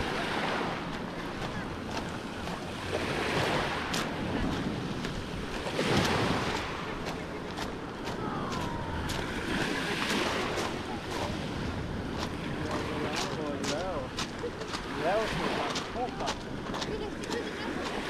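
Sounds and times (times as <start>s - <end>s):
waves washing over pebbles: 0.0s - 18.0s.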